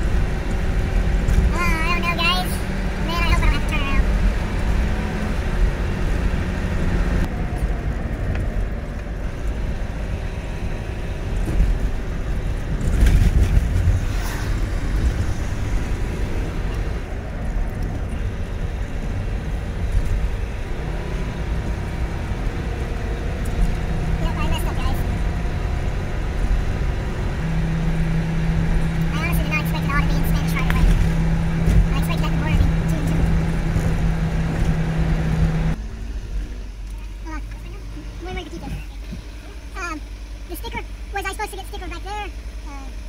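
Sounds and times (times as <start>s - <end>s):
engine drone and road rumble: 0.0s - 43.0s.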